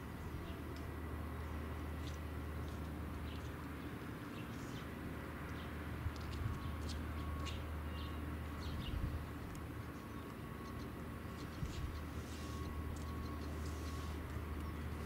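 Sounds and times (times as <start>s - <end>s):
steady low hum: 0.0s - 15.0s
small birds chirping: 0.2s - 15.0s.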